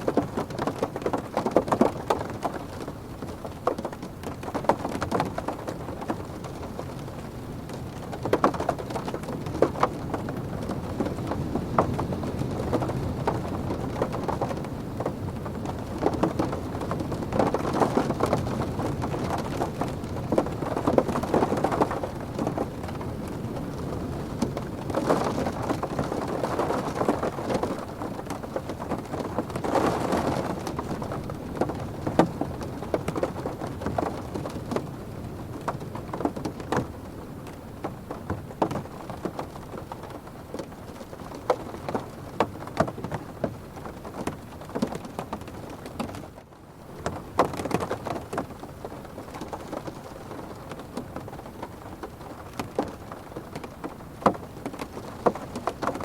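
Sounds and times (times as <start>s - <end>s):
rain drumming on a car roof: 0.0s - 56.0s.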